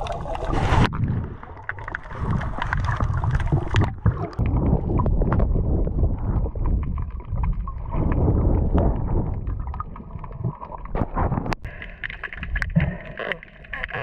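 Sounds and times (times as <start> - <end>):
muffled water sloshing and gurgling: 0.0 - 14.0.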